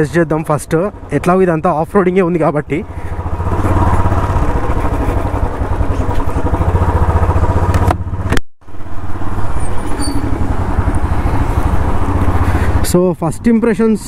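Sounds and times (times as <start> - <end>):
single-cylinder motorcycle engine: 0.0 - 14.0.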